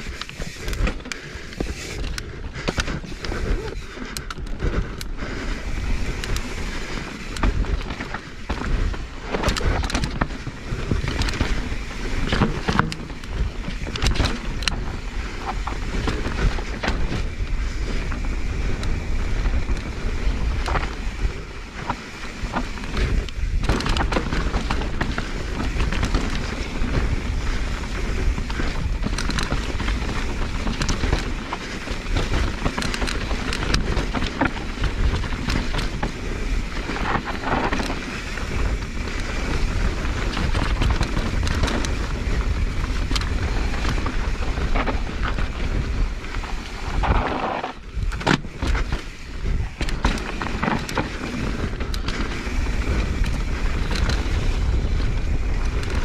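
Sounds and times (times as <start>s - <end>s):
bike knocks and rattles: 0.0s - 56.0s
bike tyres crunching over dirt: 0.0s - 56.0s
wind rumble on microphone: 0.0s - 56.0s.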